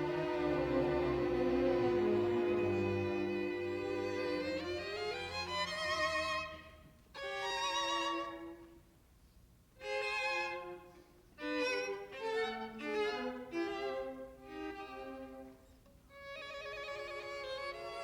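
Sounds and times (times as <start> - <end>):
solo violin playing: 0.0 - 8.6, 11.4 - 18.0.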